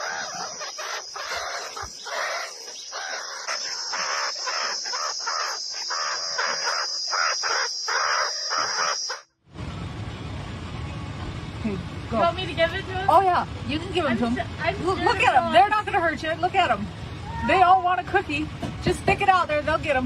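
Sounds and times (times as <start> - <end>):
birds chattering: 0.0 - 9.3, 12.2 - 20.0.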